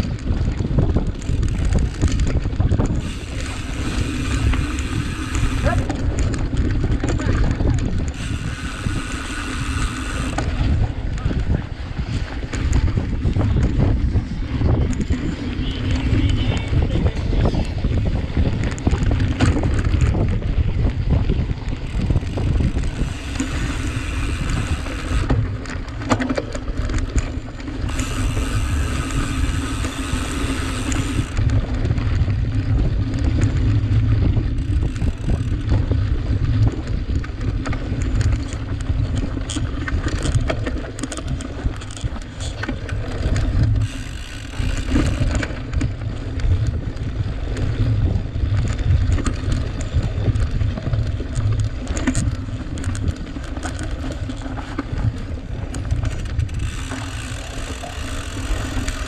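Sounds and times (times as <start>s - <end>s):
bike tyres and rattling: 0.0s - 59.0s
wind buffeting microphone: 0.0s - 59.0s.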